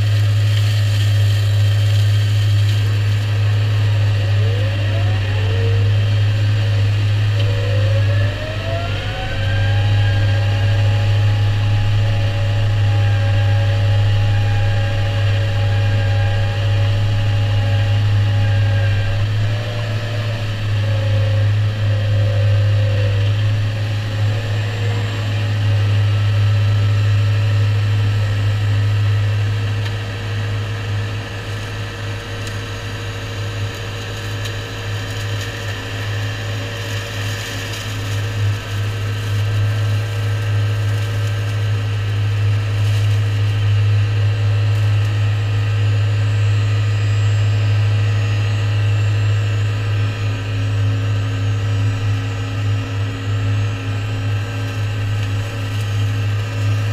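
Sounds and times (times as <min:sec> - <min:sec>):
hedge cutter flail whine: 0:00.0 - 0:56.9
tractor engine drone: 0:00.0 - 0:56.9.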